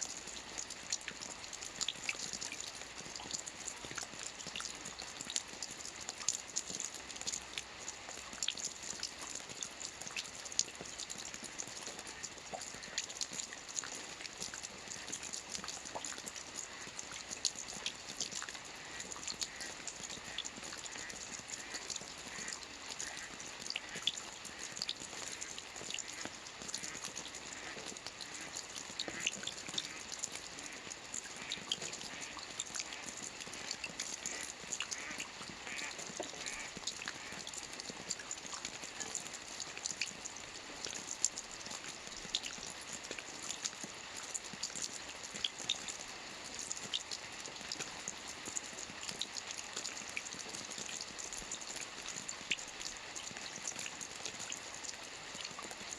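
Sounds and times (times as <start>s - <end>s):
rain falling on water: 0.0s - 55.9s.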